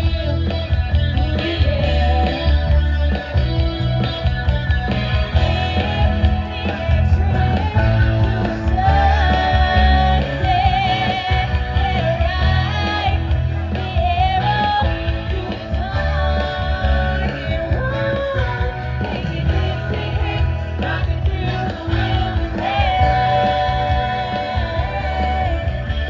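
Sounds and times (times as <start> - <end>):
woman singing into microphone: 0.0 - 4.3, 5.1 - 26.0
rock-pop backing music: 0.0 - 26.0.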